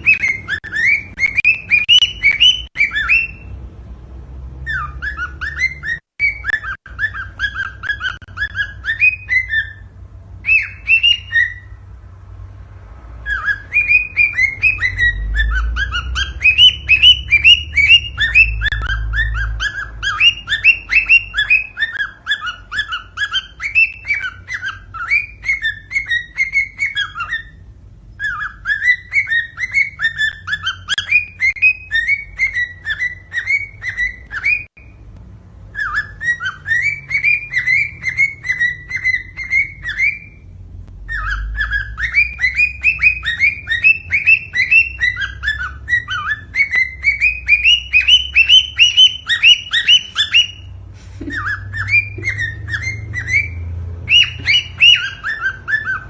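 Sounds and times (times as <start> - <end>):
cockatiel chirping whistles: 0.0 - 3.5, 4.6 - 11.8, 13.2 - 35.0, 35.7 - 56.0.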